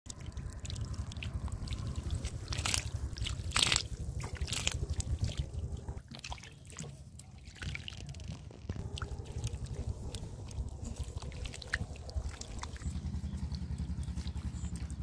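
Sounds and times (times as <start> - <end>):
low rumble: 0.1 - 6.0, 8.0 - 15.0
fish splashing in shallow water: 0.1 - 15.0.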